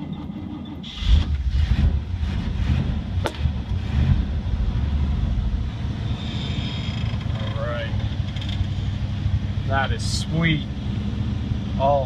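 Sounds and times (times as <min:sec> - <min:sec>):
truck engine running on choke: 0:00.0 - 0:12.0.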